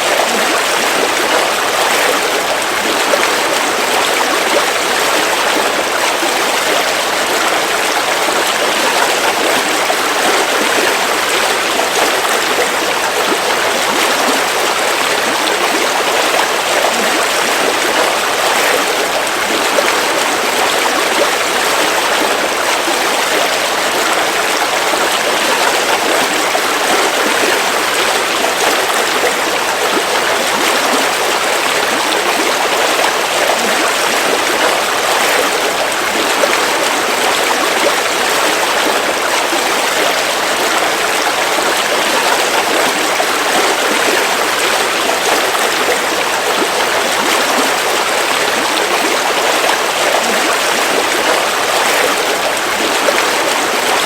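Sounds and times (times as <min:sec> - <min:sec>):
river water splashing over stones: 0:00.0 - 0:54.0.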